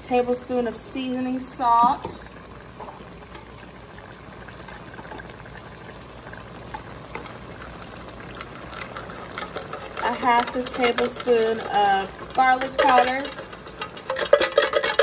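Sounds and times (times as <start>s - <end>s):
pot bubbling on stove: 0.0s - 15.0s.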